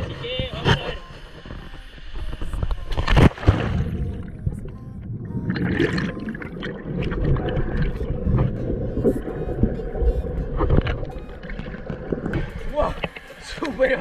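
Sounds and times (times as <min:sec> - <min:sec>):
underwater rumble and gurgling: 0:00.0 - 0:13.2.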